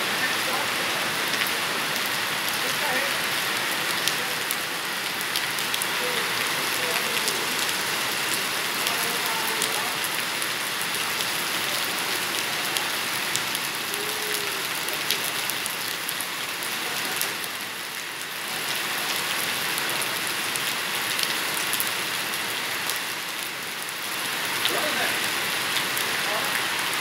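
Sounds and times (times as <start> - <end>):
rain hissing on wet street: 0.0 - 27.0.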